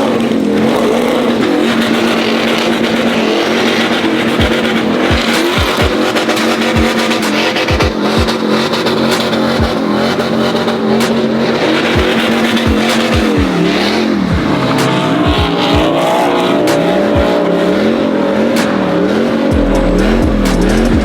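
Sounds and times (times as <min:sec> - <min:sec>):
engine revving at high revs: 0:00.0 - 0:21.0
spinning tires hissing: 0:00.0 - 0:21.0.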